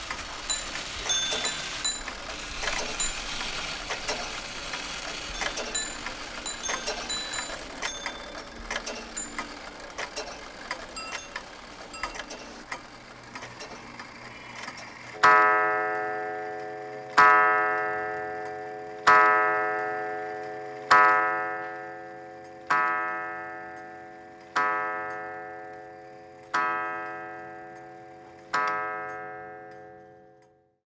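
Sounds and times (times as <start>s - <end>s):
clockwork ticking: 0.0s - 30.5s
clock striking: 0.0s - 30.6s.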